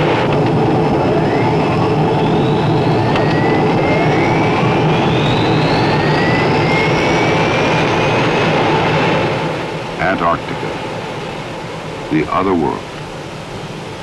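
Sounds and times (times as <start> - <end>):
turboprop engines whining: 0.0 - 14.0.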